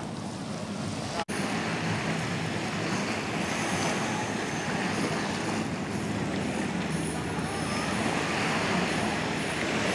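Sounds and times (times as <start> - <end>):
boat motor drone: 0.0 - 9.9
lapping surf: 0.0 - 9.9.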